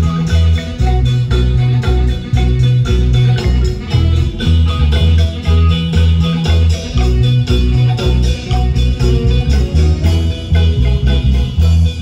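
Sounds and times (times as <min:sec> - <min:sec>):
heavy bass line: 0:00.0 - 0:12.0
marimba band playing dance music: 0:00.0 - 0:12.0.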